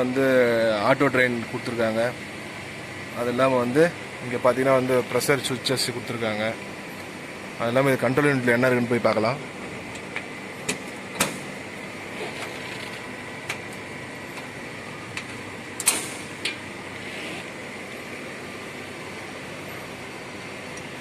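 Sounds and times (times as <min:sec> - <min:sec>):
machine hum with high whine: 0:00.0 - 0:21.0.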